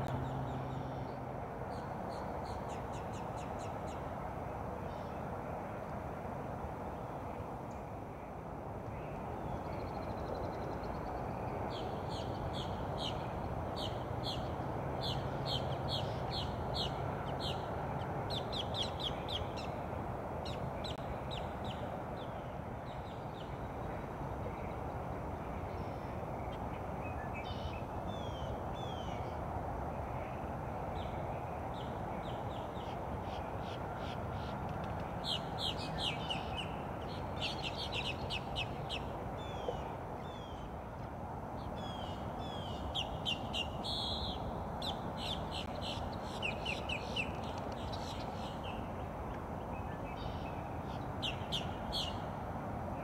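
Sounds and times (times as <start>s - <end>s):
low background noise: 0.0s - 53.0s.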